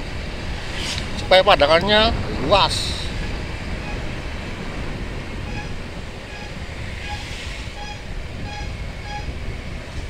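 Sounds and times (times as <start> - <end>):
wind rumble: 0.0 - 10.0.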